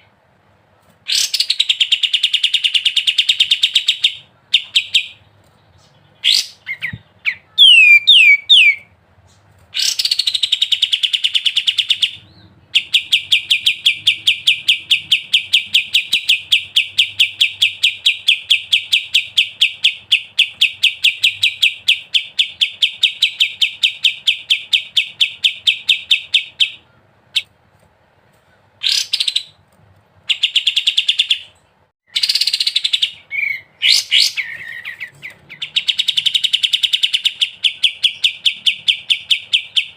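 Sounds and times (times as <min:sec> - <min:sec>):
bulbul whistles and rattling song: 0:01.1 - 0:27.5, 0:28.8 - 0:29.6, 0:30.3 - 0:39.9.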